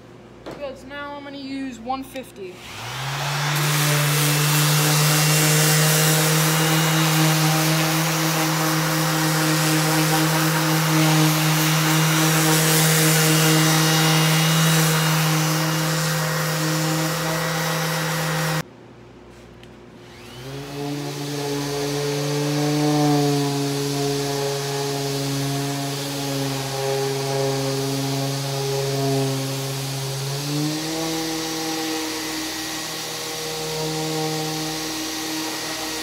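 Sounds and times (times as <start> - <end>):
dust extractor hum: 2.4 - 19.4, 20.0 - 36.0
orbital sander on wood: 2.5 - 18.6, 20.0 - 36.0.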